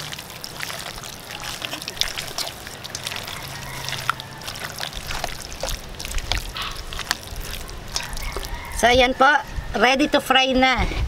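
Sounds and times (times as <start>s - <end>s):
hands mixing chicken in flour: 0.0s - 9.2s.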